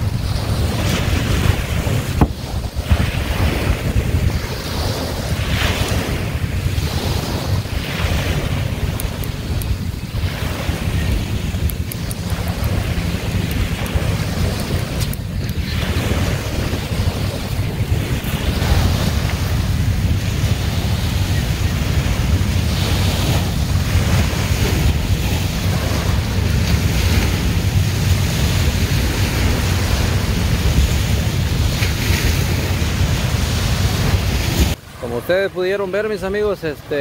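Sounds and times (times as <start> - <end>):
small waves washing onto beach: 0.0 - 37.0
wind buffeting microphone: 0.0 - 37.0.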